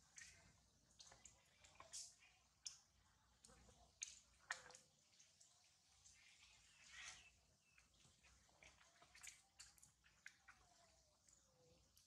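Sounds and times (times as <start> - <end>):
faint clicks and ticks: 0.1 - 12.0.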